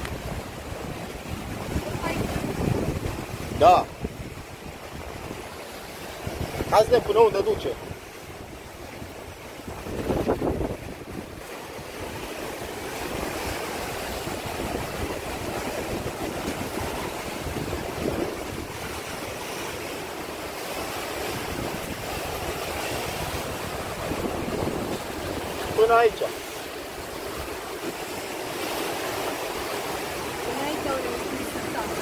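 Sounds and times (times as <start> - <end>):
surf breaking against rocks: 0.0 - 32.0
wind rumbling on microphone: 0.0 - 32.0.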